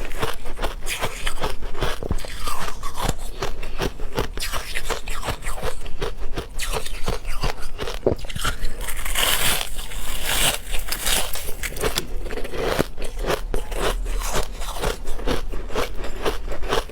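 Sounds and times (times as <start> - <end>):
ice being chewed: 0.0 - 16.9.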